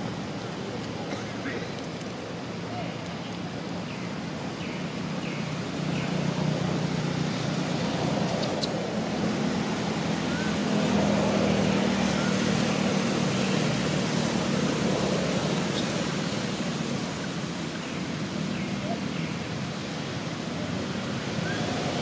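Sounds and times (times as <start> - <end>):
distant road traffic hum: 0.0 - 22.0.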